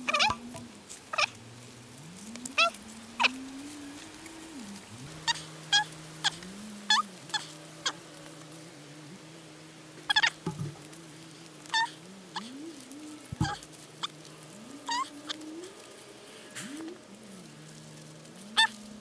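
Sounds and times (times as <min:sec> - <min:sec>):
leaves squeaking when bent: 0:00.0 - 0:19.0.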